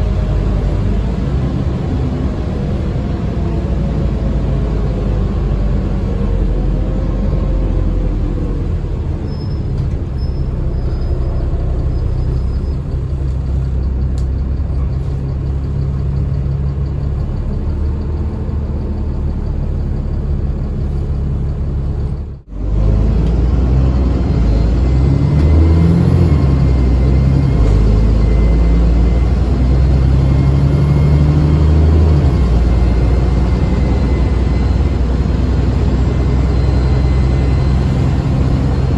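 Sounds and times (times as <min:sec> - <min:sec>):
bus diesel engine droning: 0:00.0 - 0:38.9
faint turbo whine: 0:00.0 - 0:38.9.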